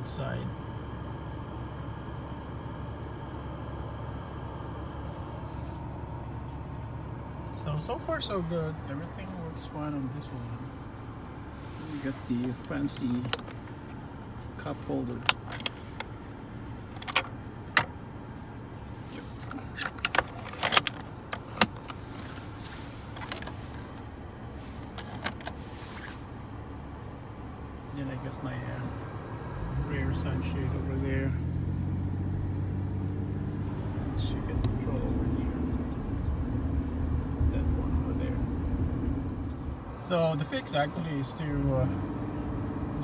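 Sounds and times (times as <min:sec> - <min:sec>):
blower fan hum and airflow: 0:00.0 - 0:43.0.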